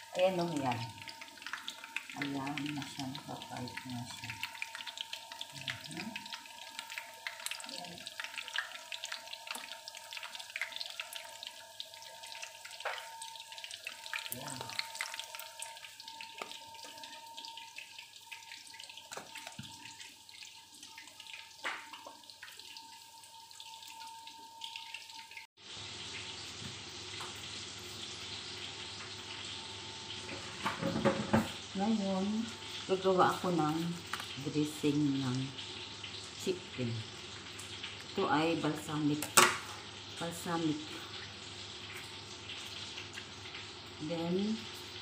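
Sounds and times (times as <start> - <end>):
chicken frying in oil: 0.0 - 45.0.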